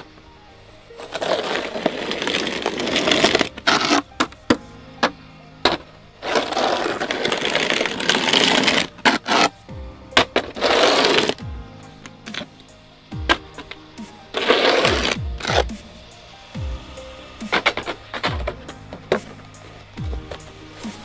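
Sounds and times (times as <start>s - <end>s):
snow crunching and scraping: 0.0s - 11.6s, 12.2s - 21.0s.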